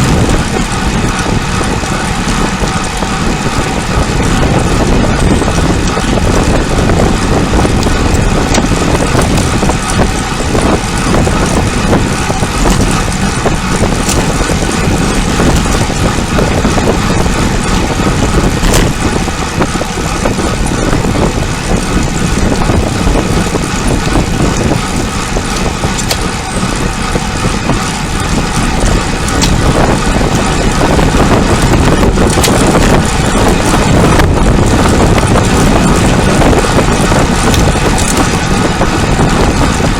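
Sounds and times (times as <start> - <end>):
tyre and road noise: 0.0 - 39.9
wind rushing over microphone: 0.0 - 39.9.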